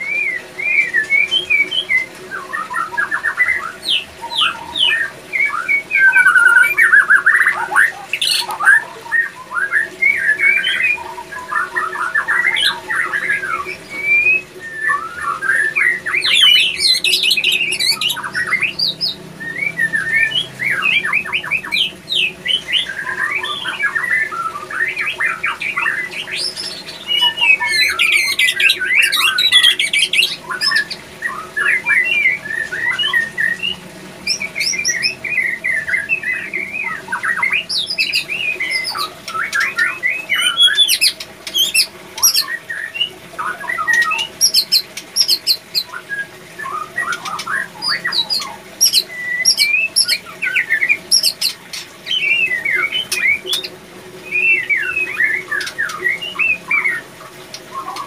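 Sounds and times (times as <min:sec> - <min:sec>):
bird singing whistled phrases: 0:00.0 - 0:57.1, 0:57.7 - 0:58.0.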